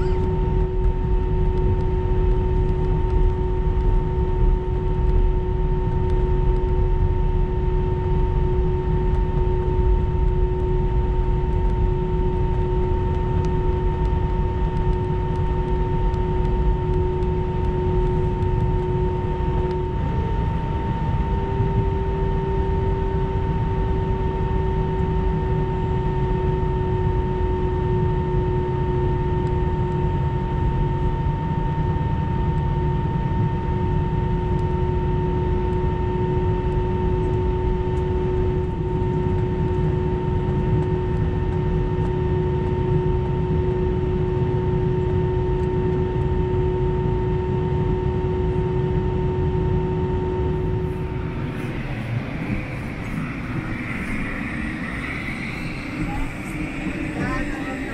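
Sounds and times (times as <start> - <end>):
jet engines idling rumble: 0.0 - 57.9
steady humming tones: 0.0 - 57.9.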